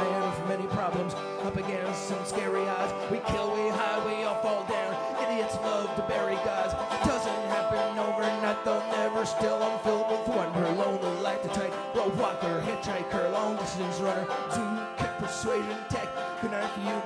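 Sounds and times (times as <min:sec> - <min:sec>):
live banjo and guitar music: 0:00.0 - 0:17.0.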